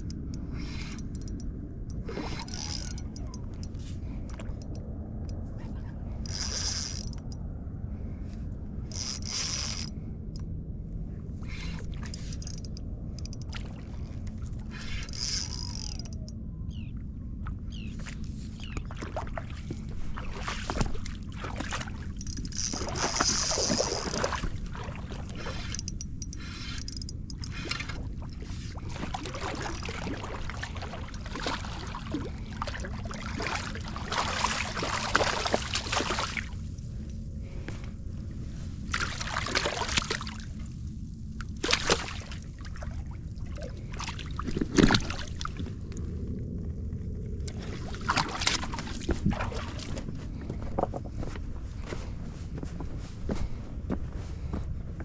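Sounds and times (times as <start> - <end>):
water sloshing and splashing: 0.0 - 7.3, 11.4 - 16.3, 17.3 - 52.1
steady low rumble: 0.0 - 55.0.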